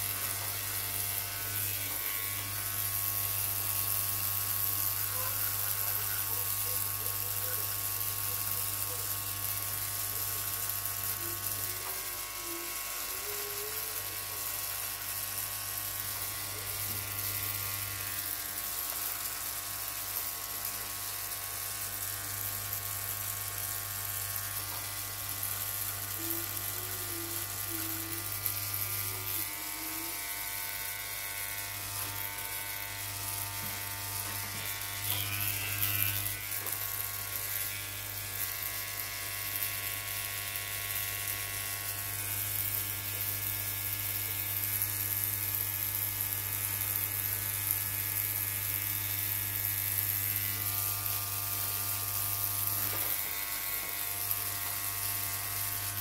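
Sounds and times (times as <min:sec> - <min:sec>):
electric hair clipper buzzing: 0:00.0 - 0:56.0.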